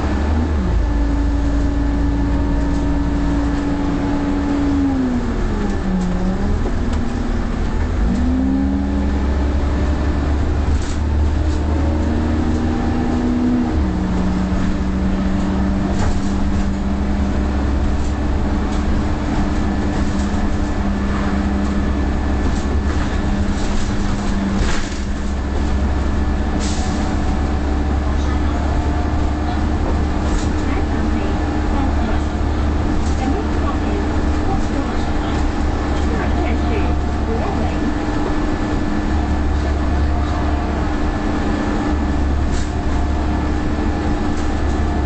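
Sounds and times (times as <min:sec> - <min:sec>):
bus diesel engine: 0:00.0 - 0:45.0.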